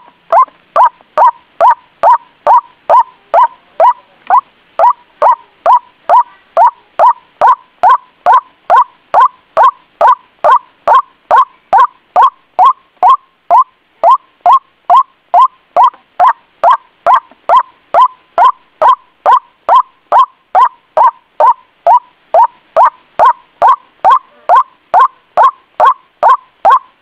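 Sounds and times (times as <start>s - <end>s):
bird call recording: 0.0s - 27.0s.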